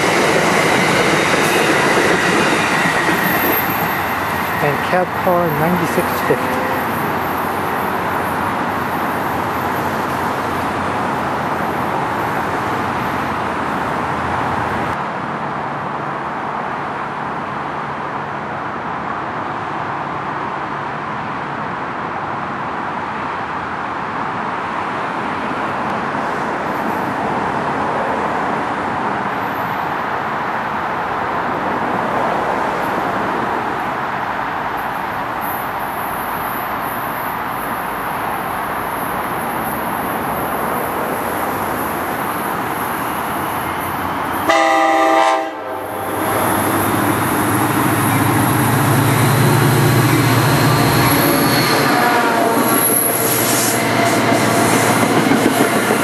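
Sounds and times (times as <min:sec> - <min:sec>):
traffic rushing: 0:00.0 - 0:17.7, 0:23.0 - 0:56.0
passing trains: 0:00.0 - 0:56.0.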